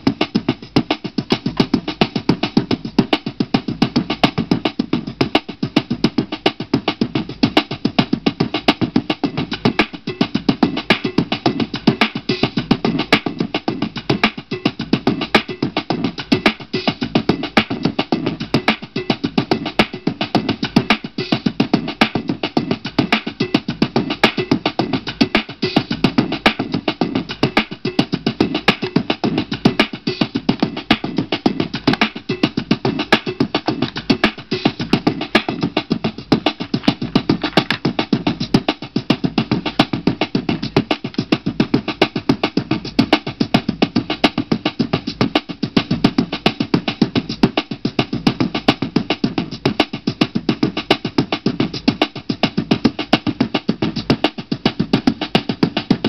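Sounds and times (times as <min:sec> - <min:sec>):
music with steady drum beat: 0:00.0 - 0:56.0.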